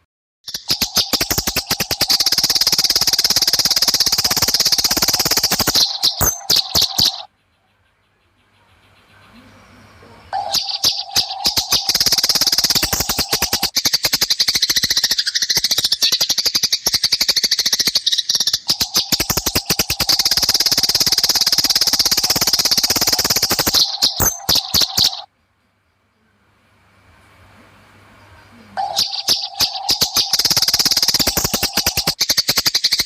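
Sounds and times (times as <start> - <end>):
sparrows chattering chirps: 0.5 - 26.2, 28.2 - 33.0.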